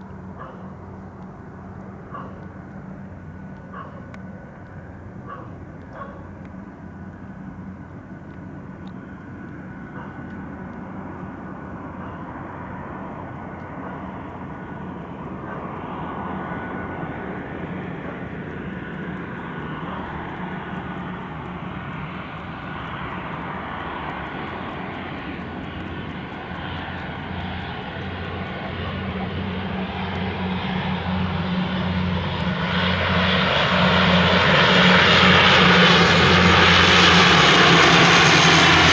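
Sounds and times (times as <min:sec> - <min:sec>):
turboprop aircraft drone: 0:00.0 - 0:38.9.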